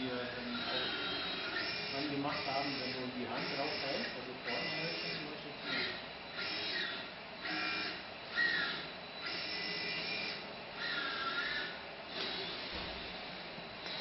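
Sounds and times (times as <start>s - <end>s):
robot arm servo whines: 0.3s - 14.0s.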